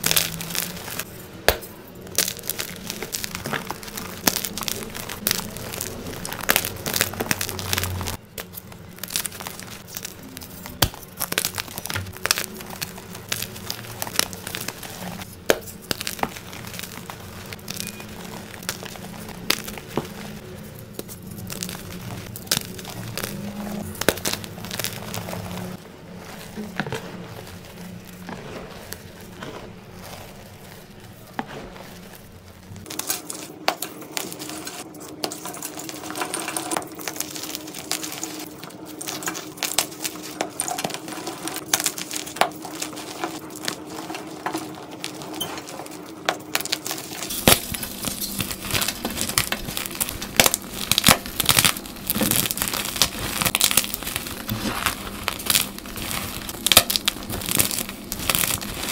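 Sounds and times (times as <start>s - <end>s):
chalk crumbling and crunching: 0.0s - 58.9s
falling crumbs: 0.0s - 58.9s.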